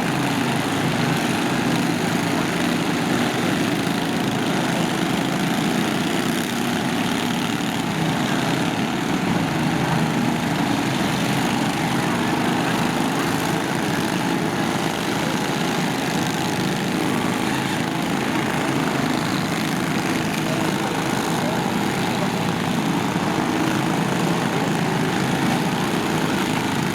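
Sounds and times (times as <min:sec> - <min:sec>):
lawn tractor engines droning: 0:00.0 - 0:26.9.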